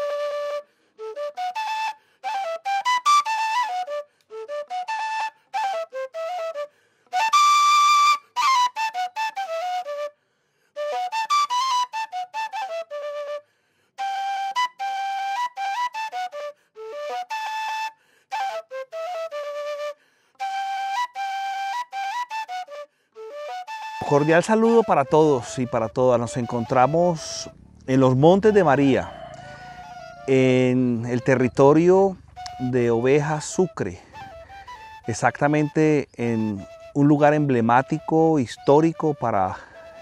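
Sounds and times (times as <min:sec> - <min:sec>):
duct flute melody: 0:00.0 - 0:10.2, 0:10.8 - 0:40.0.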